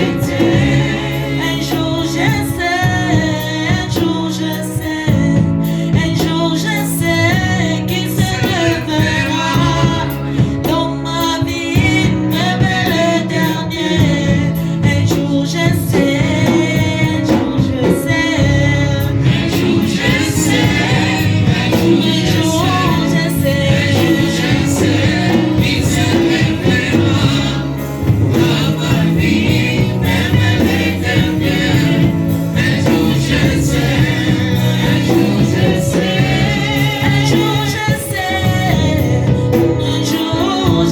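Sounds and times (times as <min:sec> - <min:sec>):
band with bass: 0:00.0 - 0:40.9
group of singers: 0:00.0 - 0:40.9.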